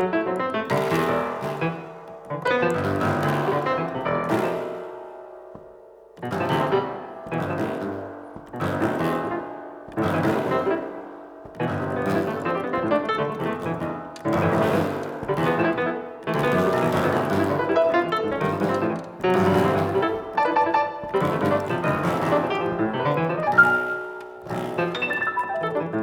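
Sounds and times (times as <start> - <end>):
solo piano playing: 0.0 - 26.0.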